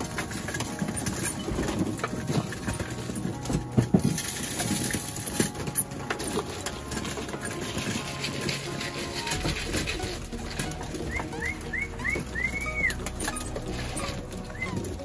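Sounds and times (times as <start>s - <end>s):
beaks pecking grain from metal troughs: 0.0s - 15.0s
pigeon wings flapping: 0.0s - 15.0s.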